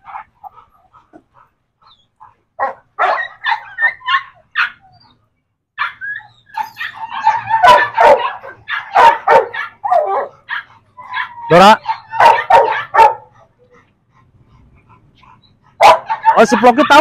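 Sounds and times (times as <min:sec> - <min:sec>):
dogs barking: 0:00.0 - 0:04.9, 0:05.8 - 0:17.0.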